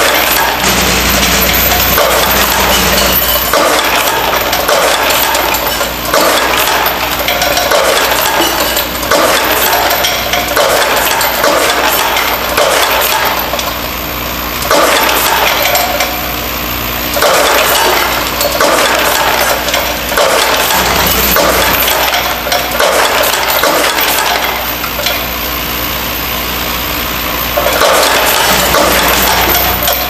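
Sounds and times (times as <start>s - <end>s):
metal fittings clattering: 0.0s - 13.8s, 17.2s - 25.3s, 27.6s - 30.0s
steady machine hum: 0.0s - 30.0s.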